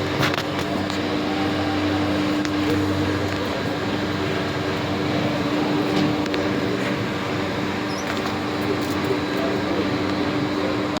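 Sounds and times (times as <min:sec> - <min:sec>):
textile machine humming: 0:00.0 - 0:11.0.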